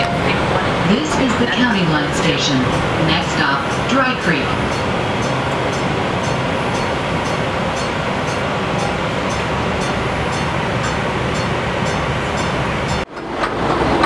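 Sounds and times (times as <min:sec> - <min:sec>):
rail car wheels rumbling on rails: 0:00.0 - 0:14.0.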